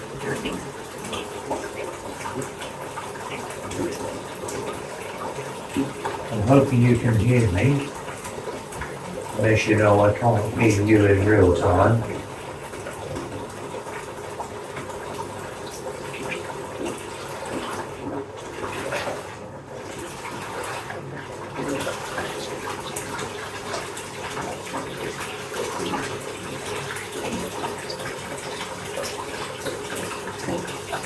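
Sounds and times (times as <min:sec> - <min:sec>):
bath tap water rushing: 0:00.0 - 0:31.0.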